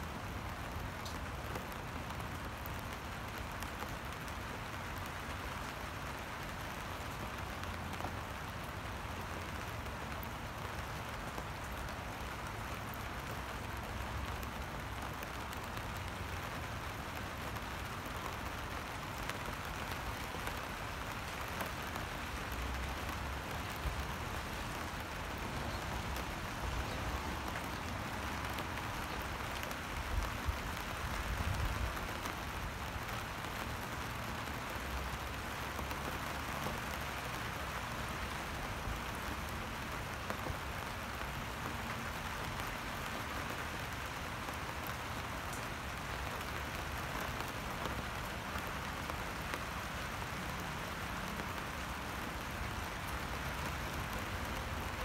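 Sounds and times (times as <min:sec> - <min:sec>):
rain pattering on wet pavement: 0:00.0 - 0:55.0.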